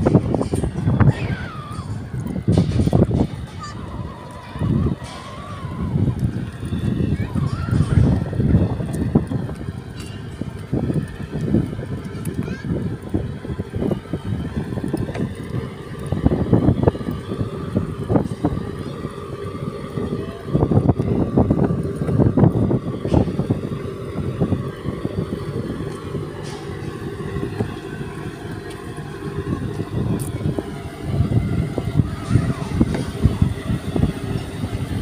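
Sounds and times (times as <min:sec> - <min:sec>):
boat engine drone: 0:00.0 - 0:35.0
wind gusting against microphone: 0:00.0 - 0:35.0.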